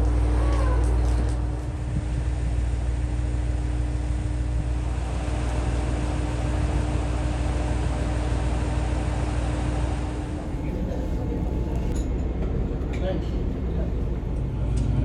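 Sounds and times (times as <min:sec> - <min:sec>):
diesel railcar rumbling: 0:00.0 - 0:15.0.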